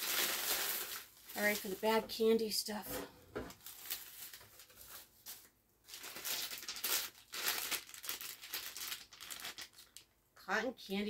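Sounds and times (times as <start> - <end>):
plastic bags crinkling: 0.0 - 2.4, 3.5 - 10.2.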